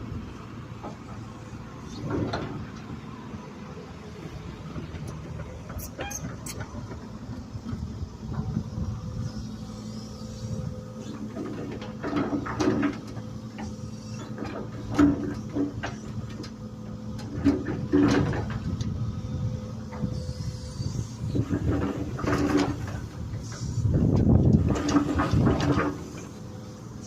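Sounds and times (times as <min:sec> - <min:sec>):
excavator engine humming: 0:00.0 - 0:27.0
machine knocks and scrapes: 0:00.8 - 0:02.8, 0:04.7 - 0:18.9, 0:19.9 - 0:26.4
hydraulic whine: 0:04.2 - 0:27.0.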